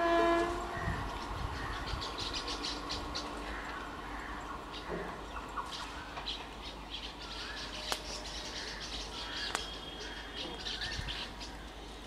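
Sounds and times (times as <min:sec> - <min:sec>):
birds chirping: 0:00.5 - 0:12.0.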